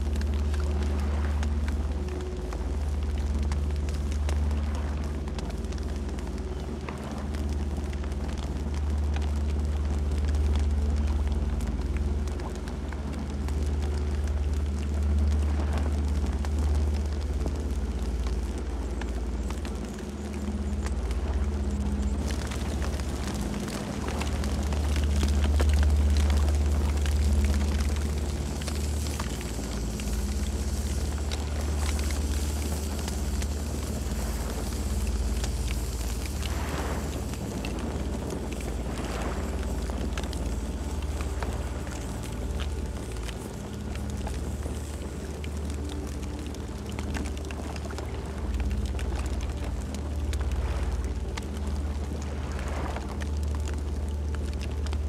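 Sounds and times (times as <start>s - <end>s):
campfire flames rumbling: 0.0s - 55.0s
faint fire crackles: 0.0s - 55.0s.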